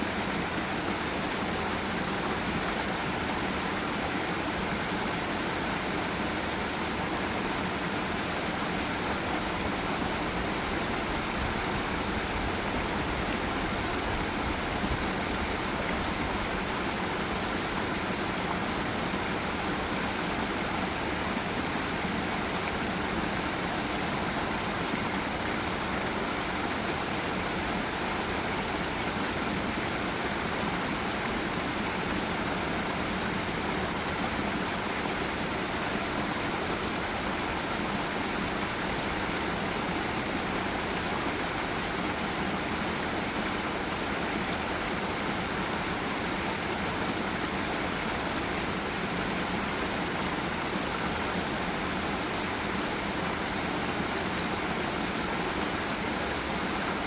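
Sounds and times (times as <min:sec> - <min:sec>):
water rushing over waterfall: 0:00.0 - 0:57.0.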